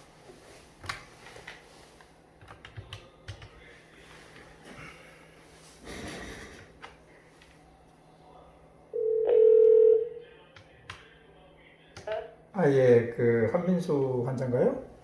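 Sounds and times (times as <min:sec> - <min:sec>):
faint low hum: 0:00.2 - 0:15.0.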